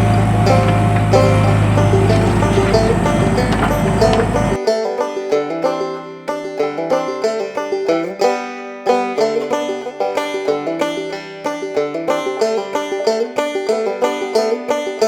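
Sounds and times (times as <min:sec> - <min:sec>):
plucked string instrument tune: 0:00.0 - 0:15.0.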